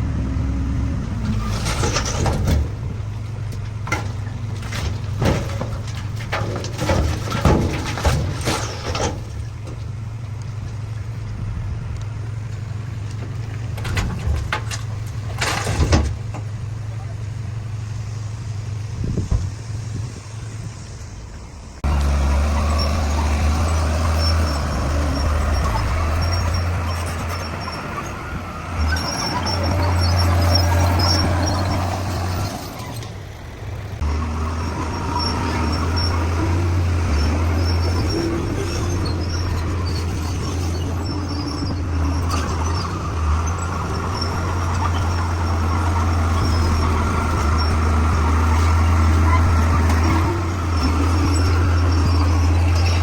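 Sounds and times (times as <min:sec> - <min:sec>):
bulldozer diesel engine: 0:00.0 - 0:53.0.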